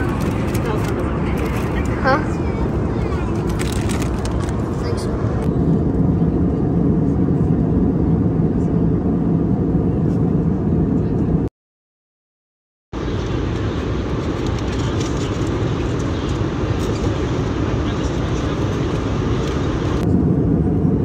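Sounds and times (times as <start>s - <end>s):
vehicle roar in motion: 0.0s - 11.5s, 13.0s - 21.0s.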